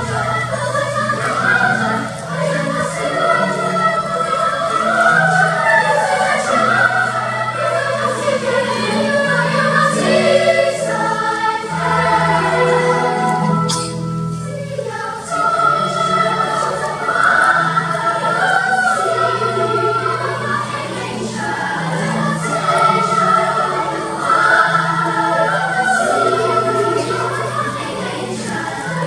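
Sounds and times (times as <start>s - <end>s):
children's choir singing: 0.0s - 29.0s.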